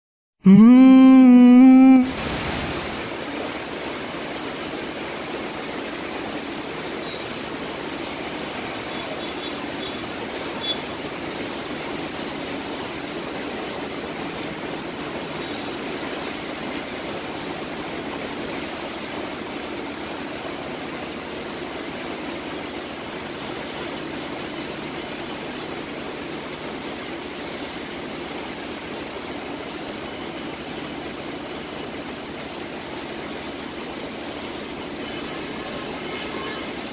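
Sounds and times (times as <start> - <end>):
heavy rain pouring: 0.6 - 36.9.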